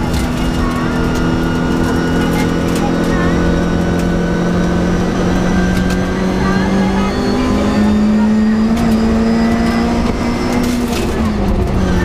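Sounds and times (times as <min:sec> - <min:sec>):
rally car engine under load: 0:00.0 - 0:12.0.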